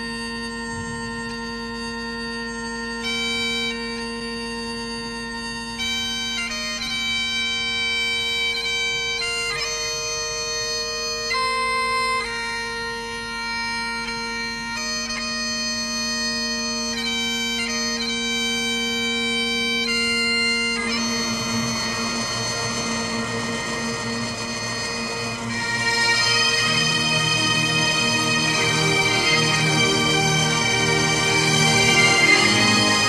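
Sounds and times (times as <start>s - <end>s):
bagpipe music: 0.0s - 33.0s.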